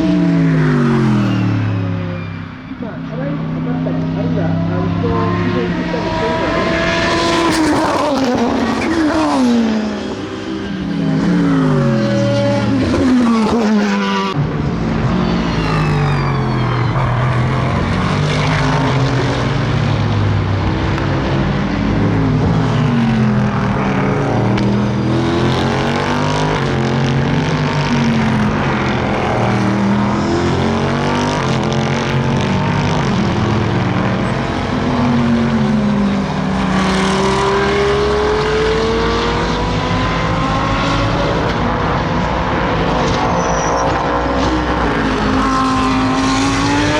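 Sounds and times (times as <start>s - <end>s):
race car engines revving: 0.0s - 46.9s
race cars passing by: 0.0s - 46.9s.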